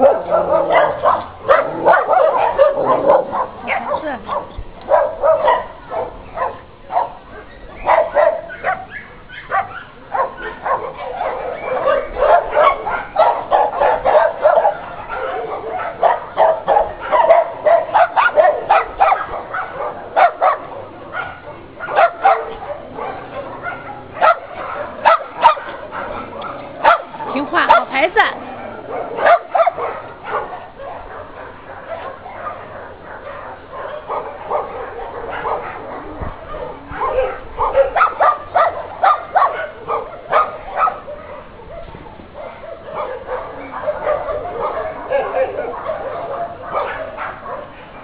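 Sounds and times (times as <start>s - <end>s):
many dogs barking and yipping: 0.0s - 48.0s.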